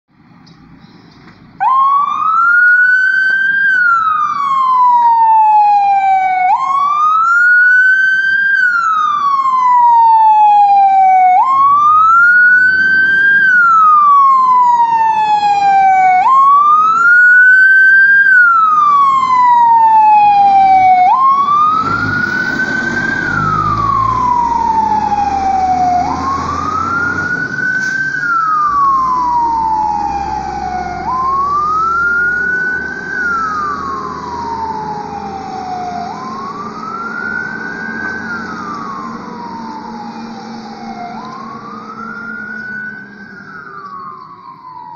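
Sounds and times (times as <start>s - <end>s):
fire engine siren wailing: 1.6s - 44.9s.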